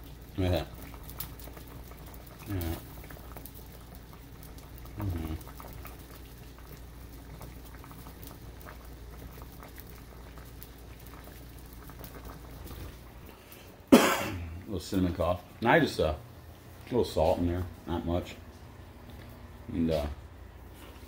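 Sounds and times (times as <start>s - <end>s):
water boiling in saucepan: 0.0s - 21.0s.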